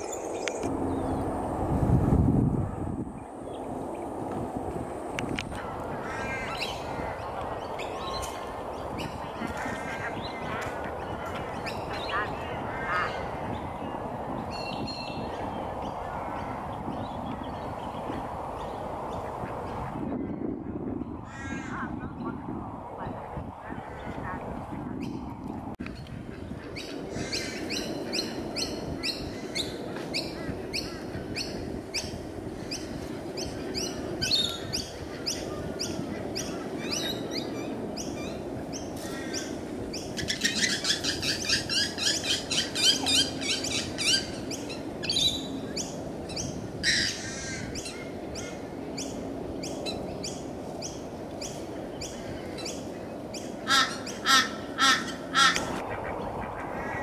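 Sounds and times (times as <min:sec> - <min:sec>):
birds chirping: 0:00.0 - 0:01.6, 0:04.9 - 0:22.4, 0:23.0 - 0:57.0.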